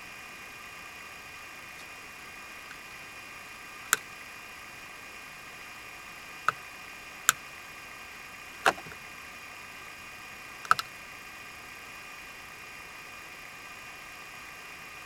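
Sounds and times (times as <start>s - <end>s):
steady electrical hiss: 0.0s - 15.0s.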